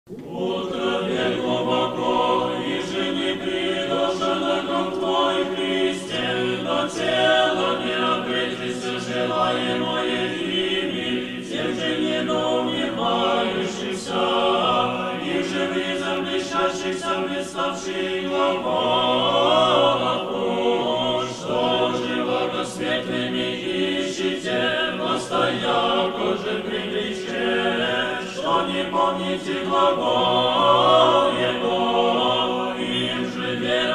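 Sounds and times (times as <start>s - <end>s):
choir singing chant: 0.1s - 33.9s.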